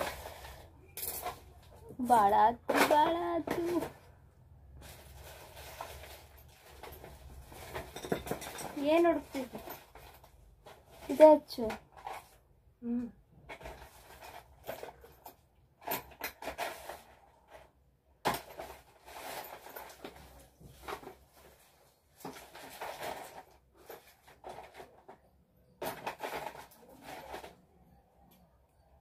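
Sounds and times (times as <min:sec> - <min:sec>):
rustling and handling noises: 0:00.0 - 0:28.9.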